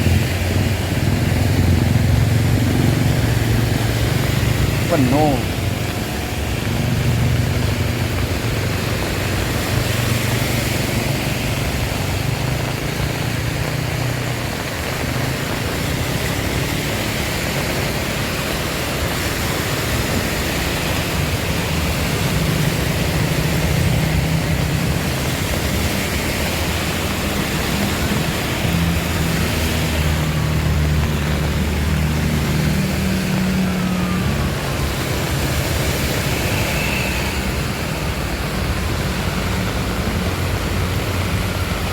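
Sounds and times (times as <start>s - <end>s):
engines moving through flood water: 0.0s - 41.9s
heavy rain hissing: 0.0s - 41.9s.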